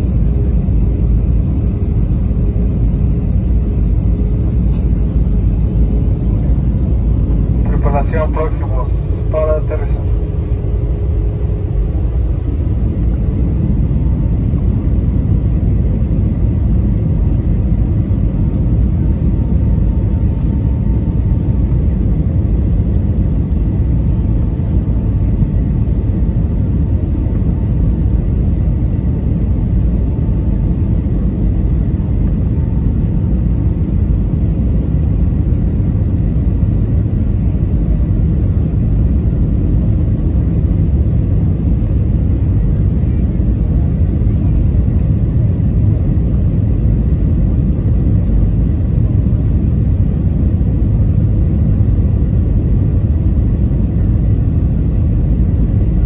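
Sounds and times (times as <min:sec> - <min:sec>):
airliner cabin rumble: 0:00.0 - 0:56.0
faint steady whine: 0:00.0 - 0:56.0.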